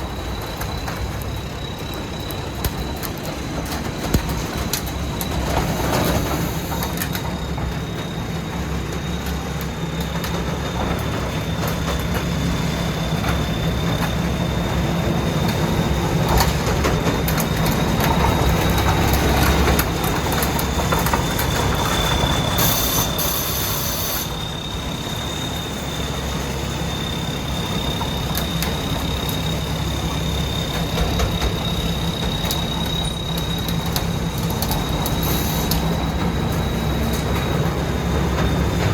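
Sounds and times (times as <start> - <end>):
combine harvester engine drone: 0.0 - 38.9
high machine whine: 0.0 - 38.9.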